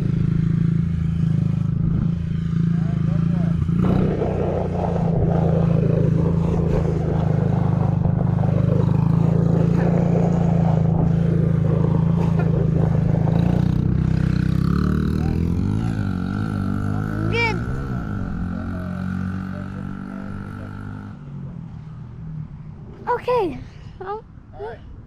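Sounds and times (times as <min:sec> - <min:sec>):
motorcycle engine running: 0:00.0 - 0:21.4.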